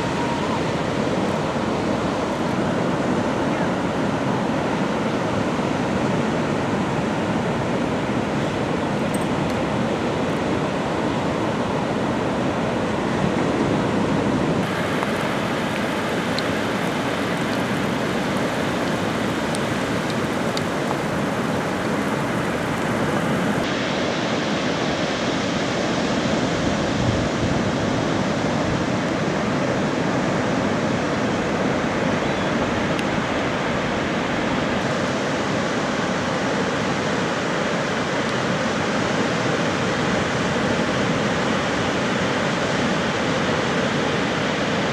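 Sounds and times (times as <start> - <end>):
heavy surf breaking waves: 0.0 - 44.9.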